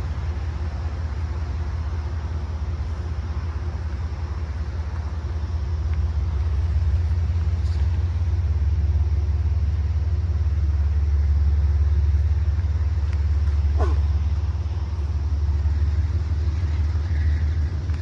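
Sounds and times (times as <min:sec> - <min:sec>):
large engine rumbling: 0:00.0 - 0:18.0.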